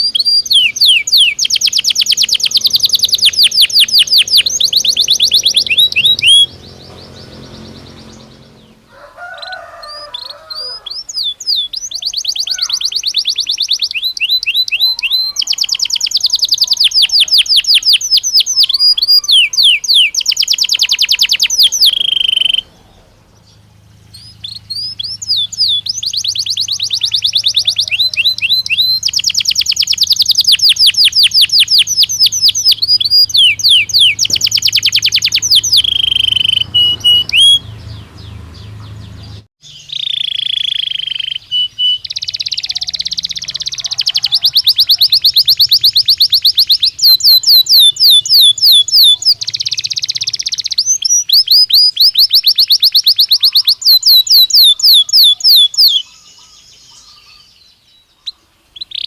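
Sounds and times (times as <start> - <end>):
canary singing in trills: 0.0 - 59.0.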